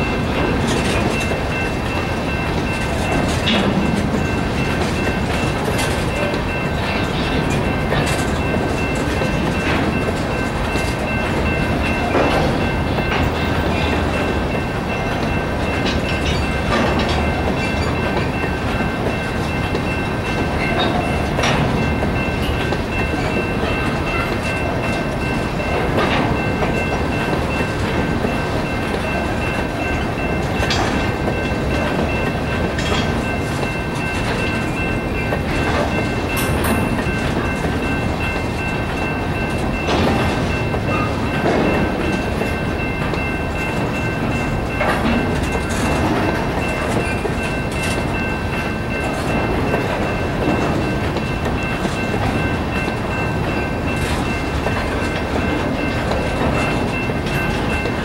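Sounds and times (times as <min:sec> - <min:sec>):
crossing bell high tone: 0:00.0 - 0:58.0
train wheels clacking over rails: 0:00.0 - 0:58.0.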